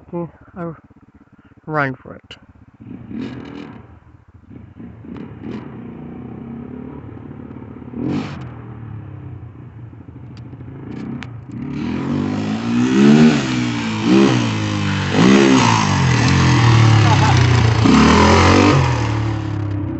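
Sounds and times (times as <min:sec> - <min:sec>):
dirt bike engine revving: 0:00.8 - 0:08.8, 0:10.7 - 0:19.9.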